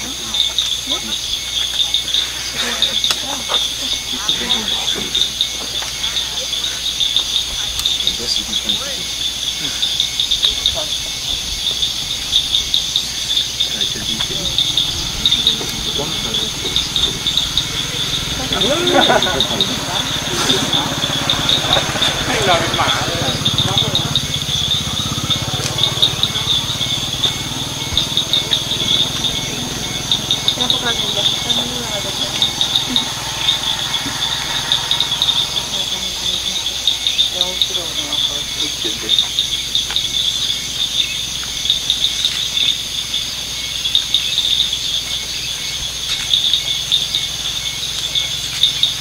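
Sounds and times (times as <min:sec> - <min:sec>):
crickets trilling: 0:00.0 - 0:49.0
pulsing insect chorus: 0:00.0 - 0:49.0
vehicle engine idling: 0:00.0 - 0:49.0.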